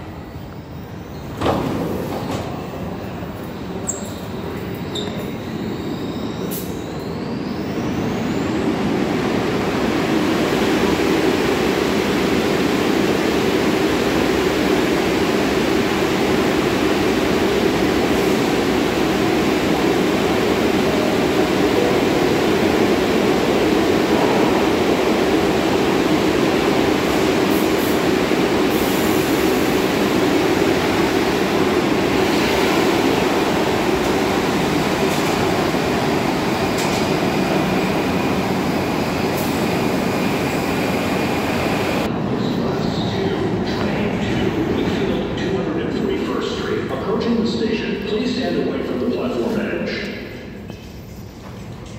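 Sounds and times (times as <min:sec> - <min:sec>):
subway train rumbling: 0:00.0 - 0:51.9.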